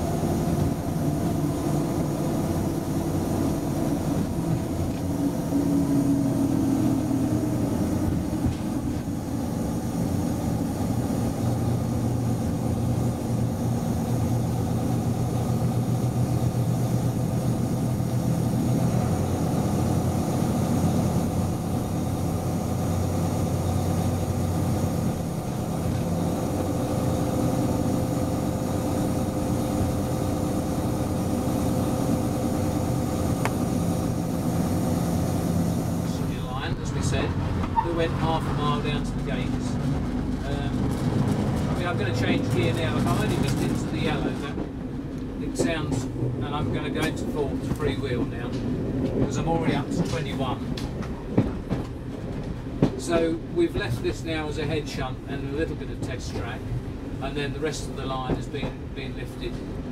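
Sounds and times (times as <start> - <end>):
locomotive engine humming: 0.0 - 59.9
rail noise: 0.0 - 59.9.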